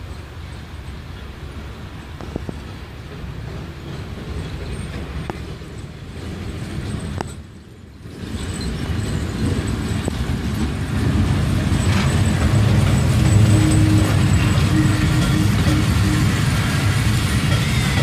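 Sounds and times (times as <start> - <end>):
passing train rumble: 0.0 - 18.0.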